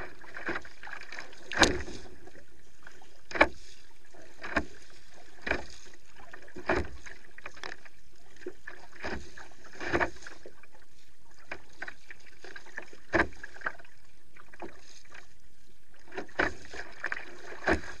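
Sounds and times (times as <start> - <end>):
paddle splashes and slaps: 0.0 - 15.3, 15.9 - 18.0
wind and water hiss: 0.0 - 18.0.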